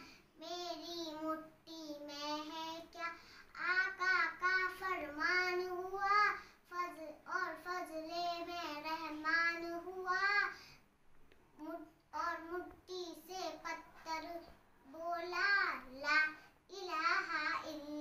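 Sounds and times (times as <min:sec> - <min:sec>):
girl singing unaccompanied: 0:00.0 - 0:10.9, 0:11.5 - 0:18.0.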